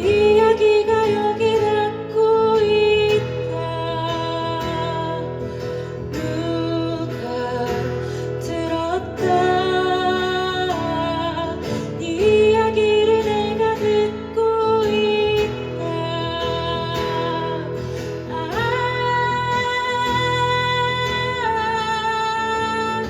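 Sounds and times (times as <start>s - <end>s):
person singing: 0.0s - 23.0s
slow tender band song: 0.0s - 23.0s.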